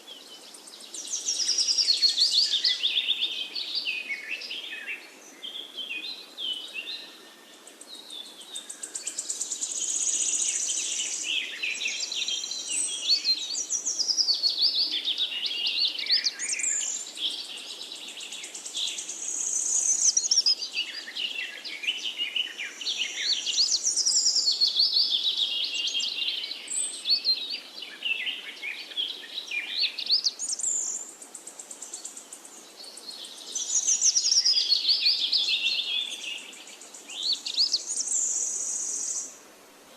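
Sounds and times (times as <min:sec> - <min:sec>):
songbirds warbling: 0:00.0 - 0:39.4.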